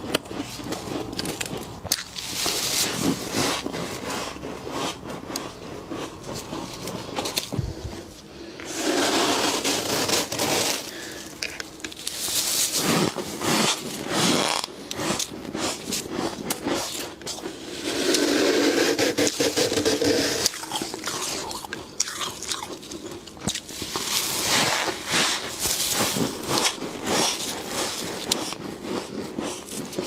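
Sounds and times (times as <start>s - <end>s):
frost being scraped: 0.0s - 30.0s.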